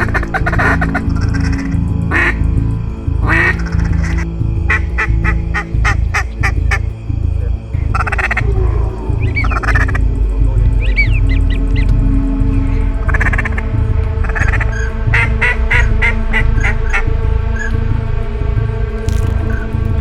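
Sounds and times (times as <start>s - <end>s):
music with low beat: 0.0s - 20.0s.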